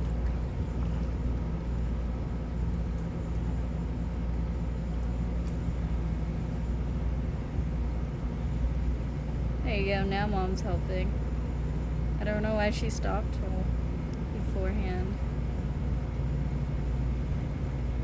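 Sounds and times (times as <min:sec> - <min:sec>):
faint even hum: 0:00.0 - 0:18.0
steady low rumble: 0:00.0 - 0:18.0.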